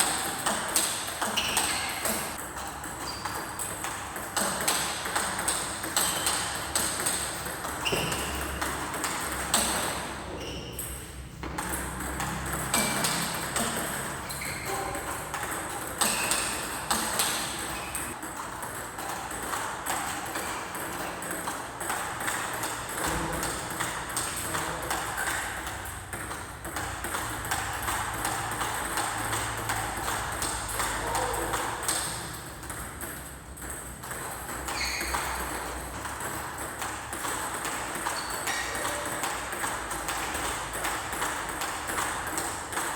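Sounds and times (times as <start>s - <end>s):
racket hits and ball bounces: 0.0s - 42.9s.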